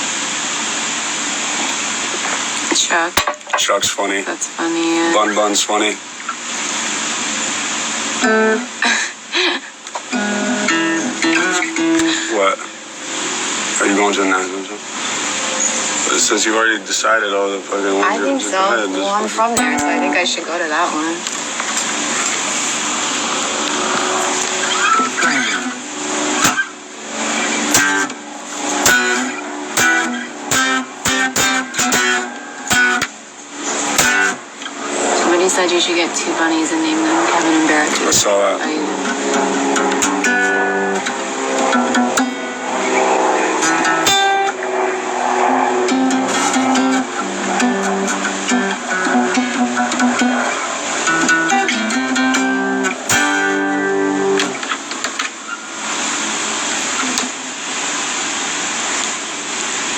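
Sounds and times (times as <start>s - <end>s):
acoustic guitar strumming: 0.0s - 59.5s.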